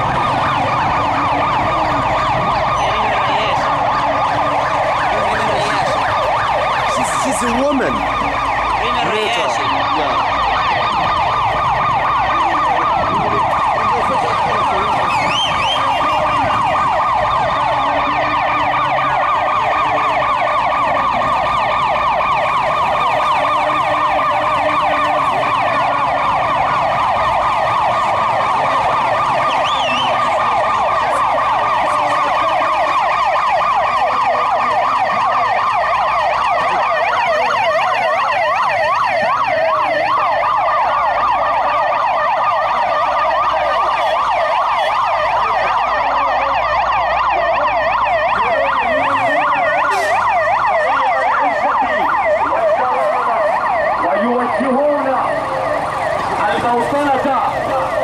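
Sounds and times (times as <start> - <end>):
ambulance sirens wailing: 0.0 - 58.0.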